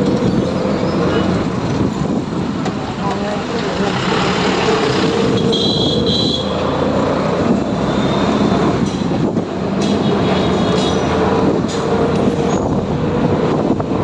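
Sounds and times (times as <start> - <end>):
auto-rickshaw engine running: 0.0 - 14.0
road and traffic noise: 0.0 - 14.0.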